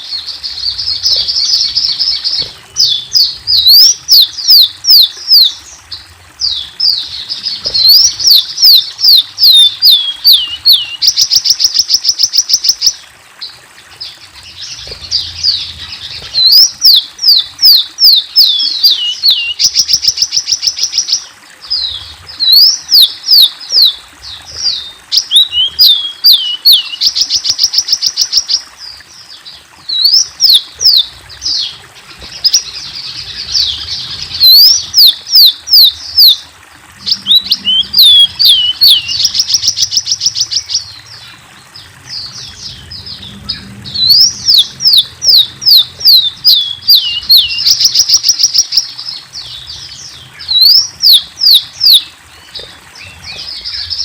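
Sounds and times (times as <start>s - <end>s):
sunbird singing: 0.0s - 13.0s, 14.0s - 36.4s, 37.0s - 54.0s.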